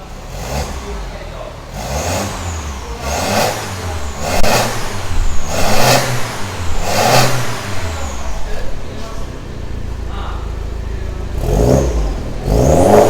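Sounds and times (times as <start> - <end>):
car engine idling: 0.0 - 13.0
car engine revving: 0.0 - 13.0.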